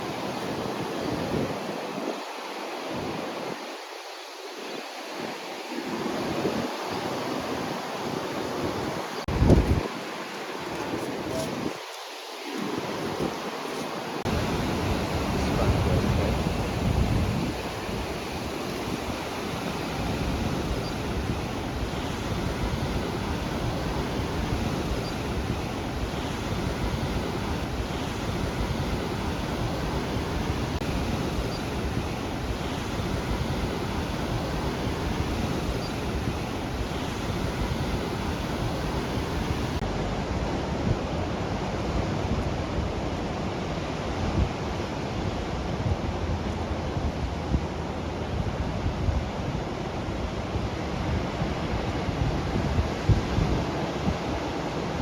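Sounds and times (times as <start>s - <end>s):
ocean surf breaking on beach: 0.0s - 55.0s
wind on microphone: 4.8s - 43.2s, 44.2s - 55.0s.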